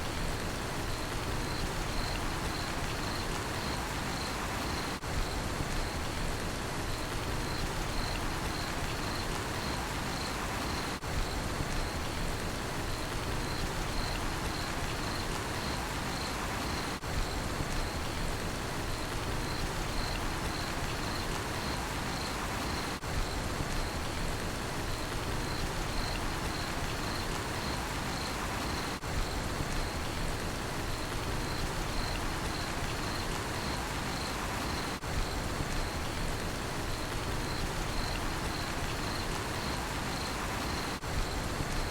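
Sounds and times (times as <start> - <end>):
cricket chirping: 0.8 - 6.2, 6.9 - 12.2, 12.8 - 18.2, 18.8 - 24.2, 24.9 - 30.3, 30.9 - 41.9.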